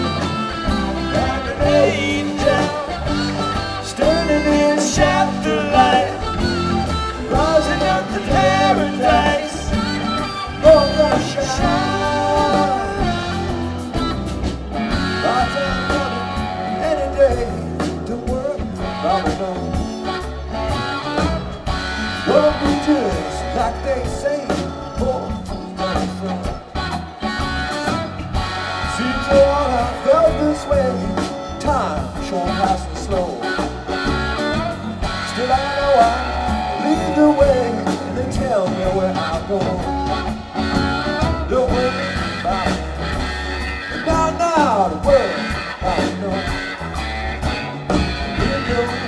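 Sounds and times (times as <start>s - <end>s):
electric guitar lead: 0.0s - 49.0s
live rock band playing: 0.0s - 49.0s.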